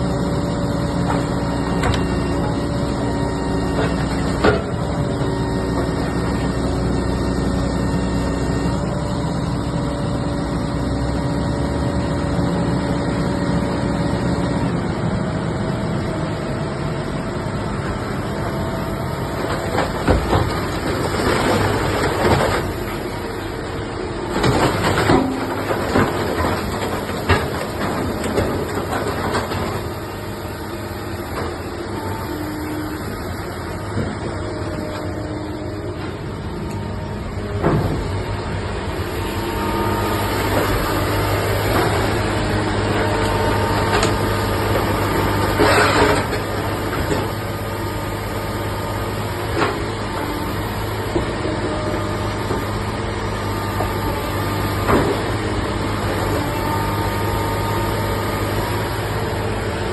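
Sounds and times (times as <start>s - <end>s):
heavy machine hum: 0.0s - 59.9s.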